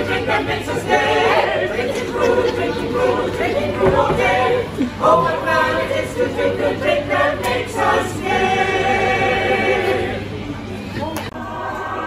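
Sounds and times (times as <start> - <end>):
choir singing: 0.0 - 10.4, 11.4 - 12.0.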